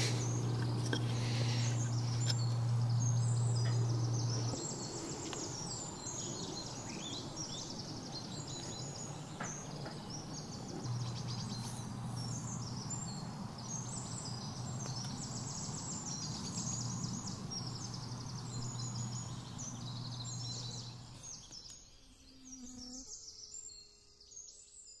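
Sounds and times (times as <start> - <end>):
steady low hum: 0.0 - 21.5
birds chirping and singing: 0.0 - 21.8.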